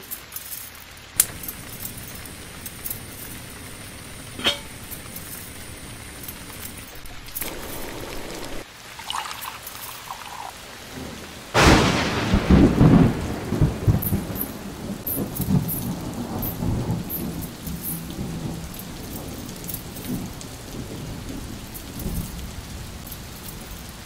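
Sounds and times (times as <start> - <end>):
steady rain: 0.0 - 24.0
thunderclap rumbling: 1.2 - 8.7, 10.9 - 23.0.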